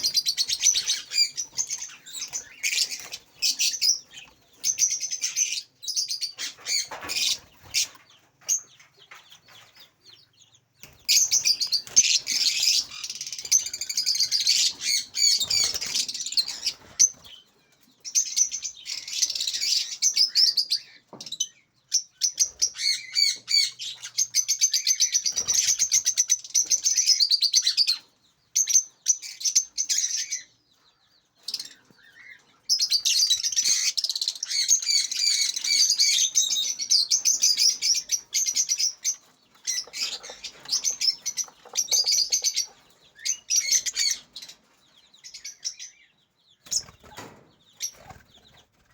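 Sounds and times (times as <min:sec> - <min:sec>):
lovebirds chattering: 0:00.0 - 0:48.9.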